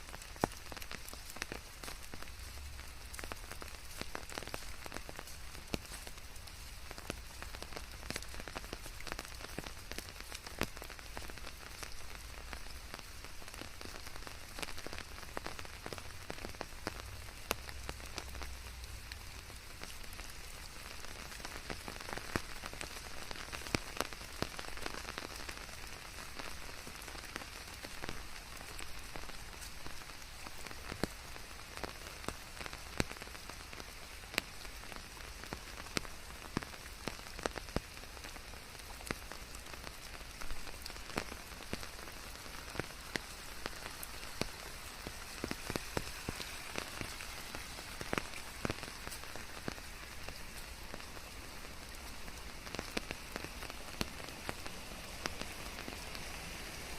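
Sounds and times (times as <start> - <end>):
close raindrops ticking: 0.0 - 56.9
steady rain falling: 0.0 - 56.9.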